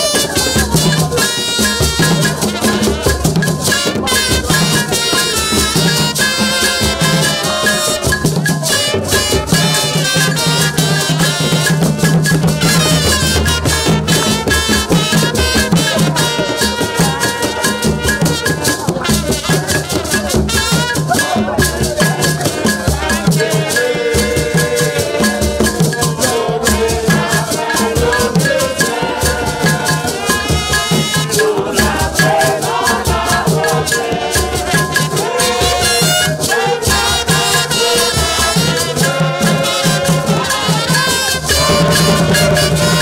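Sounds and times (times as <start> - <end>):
hand drums struck with palms: 0.0 - 43.0
trumpets playing a melody: 0.0 - 43.0.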